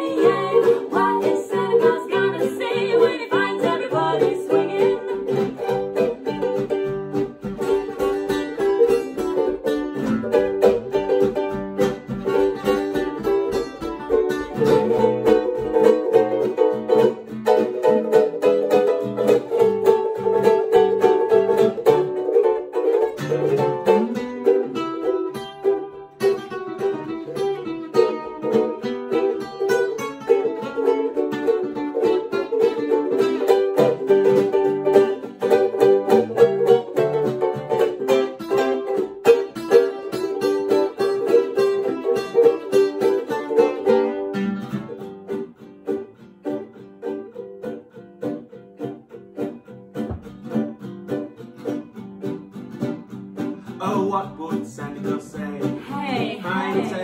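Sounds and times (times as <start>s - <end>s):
acoustic guitar strumming: 0.0s - 57.0s
ukuleles strumming: 0.0s - 57.0s.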